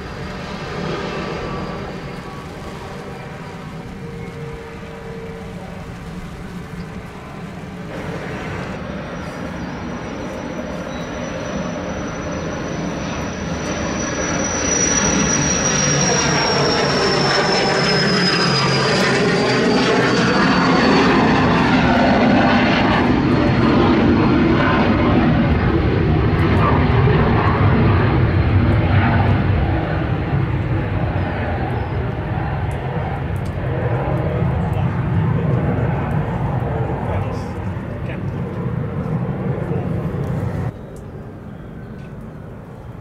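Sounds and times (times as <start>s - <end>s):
distant jet airliner engine noise: 0.0s - 43.0s
jet taking off with turbine whine: 0.0s - 43.0s.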